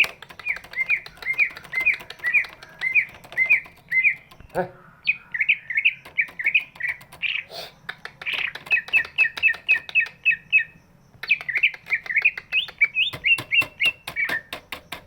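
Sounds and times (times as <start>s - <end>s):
bird clicks: 0.0s - 4.6s, 5.8s - 15.0s
bird whistling song: 0.0s - 15.0s.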